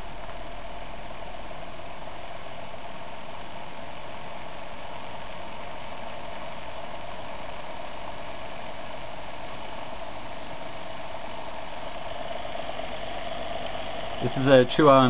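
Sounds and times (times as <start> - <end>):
fan and motor whirring: 0.0 - 15.0.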